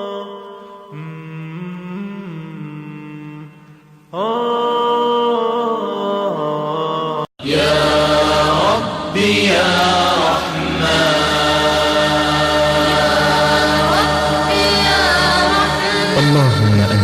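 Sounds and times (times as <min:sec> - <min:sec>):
chanted vocal music: 0:00.0 - 0:17.0.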